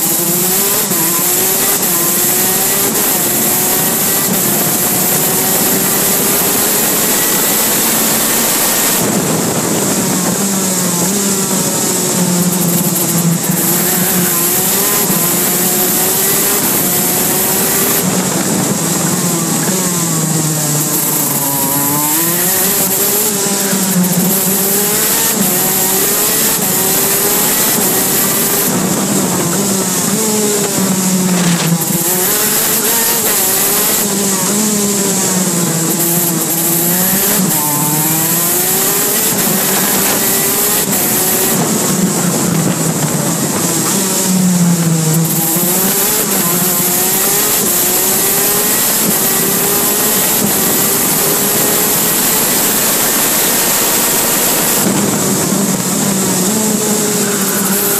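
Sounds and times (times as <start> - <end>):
two-stroke kart engine racing: 0.0 - 57.9.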